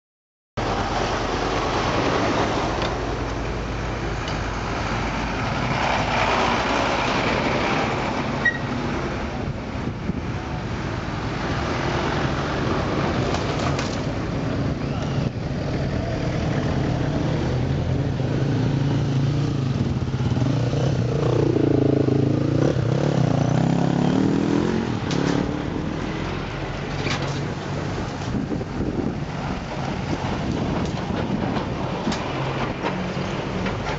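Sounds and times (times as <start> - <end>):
truck engines droning: 0.6 - 33.9.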